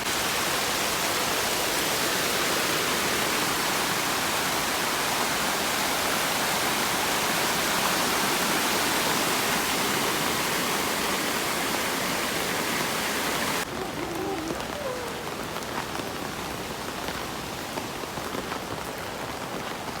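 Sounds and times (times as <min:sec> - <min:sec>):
heavy rain hiss: 0:00.0 - 0:20.0
soft rain patter: 0:00.0 - 0:20.0.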